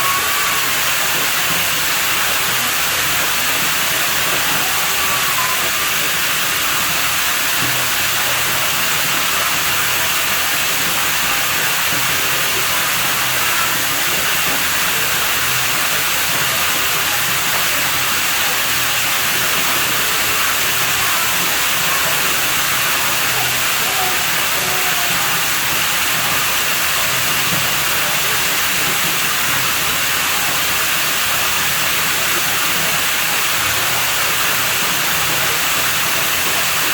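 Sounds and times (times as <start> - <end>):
water running with steady hiss: 0.0 - 36.9.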